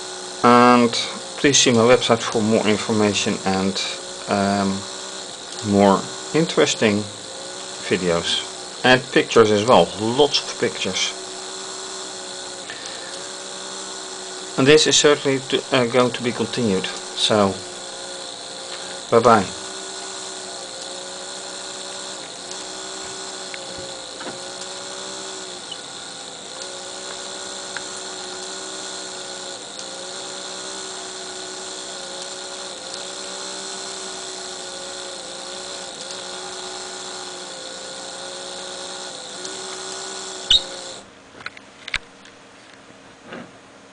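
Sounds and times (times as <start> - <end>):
small electric motors whining: 0.0 - 42.3.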